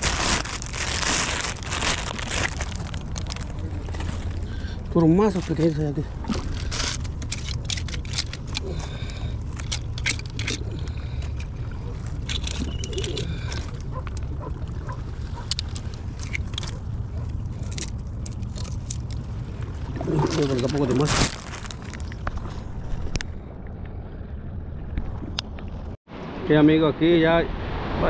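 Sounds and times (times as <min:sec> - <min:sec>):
wind and water rumble: 0:00.0 - 0:28.0.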